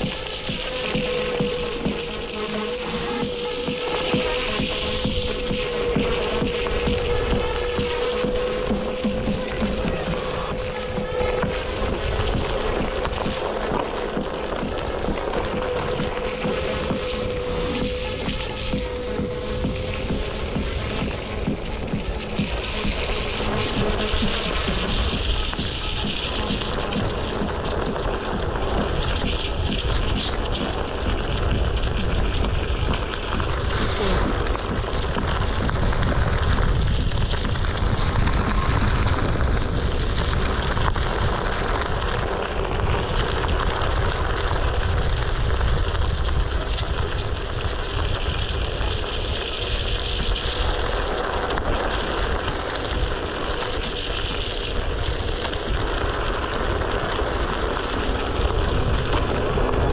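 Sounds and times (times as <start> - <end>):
heavy low rumble: 0.0 - 59.9
tyre rolling on wet gravel: 0.0 - 59.9
wind buffeting microphone: 0.0 - 59.9.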